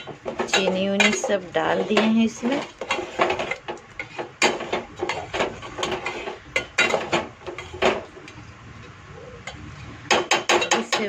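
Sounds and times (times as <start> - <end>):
spoon scraping cooking pot: 0.0 - 11.0.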